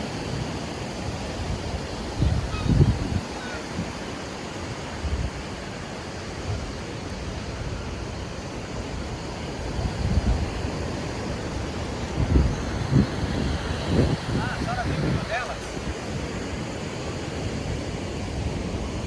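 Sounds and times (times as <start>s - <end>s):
sea surf washing onto beach: 0.0s - 19.0s
wind rumble on microphone: 0.0s - 19.0s.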